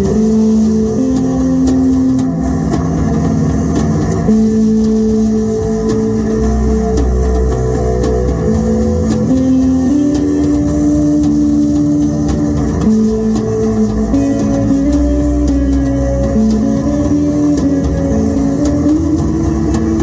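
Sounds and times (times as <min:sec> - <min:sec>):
drums and cymbals: 0:00.0 - 0:20.0
electric guitar sustained notes: 0:00.0 - 0:20.0.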